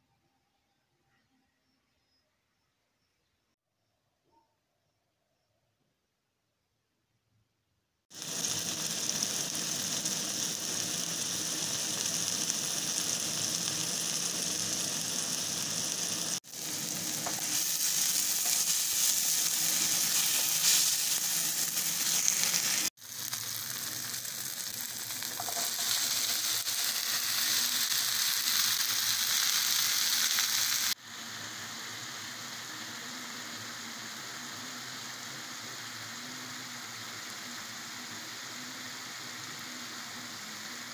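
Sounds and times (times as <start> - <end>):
vegetables sizzling in oil: 8.1 - 40.9.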